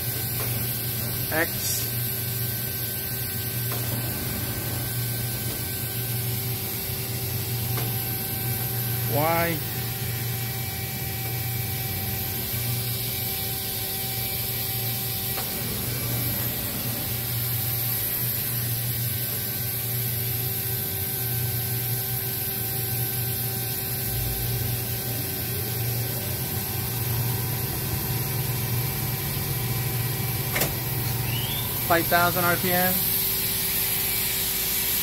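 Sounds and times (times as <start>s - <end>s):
machining center humming: 0.0s - 35.0s.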